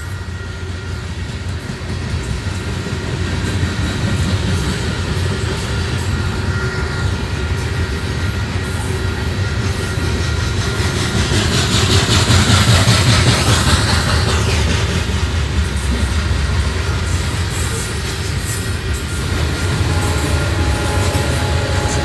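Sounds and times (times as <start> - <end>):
freight cars rolling on rails: 0.0 - 22.0.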